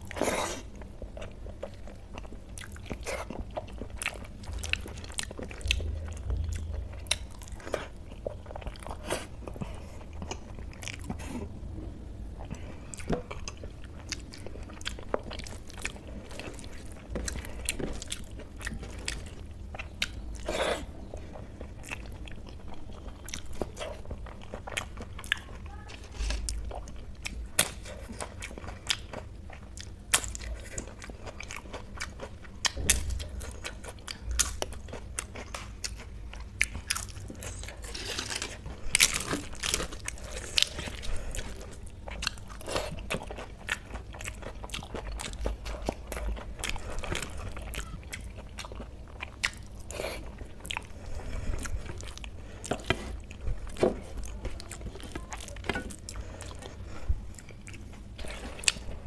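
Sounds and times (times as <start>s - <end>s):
chewing food: 0.0s - 59.0s.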